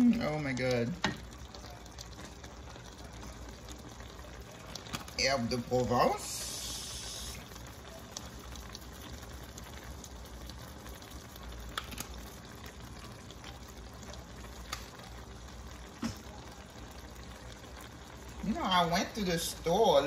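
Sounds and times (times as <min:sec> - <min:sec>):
stew bubbling in a pot: 0:00.0 - 0:20.0.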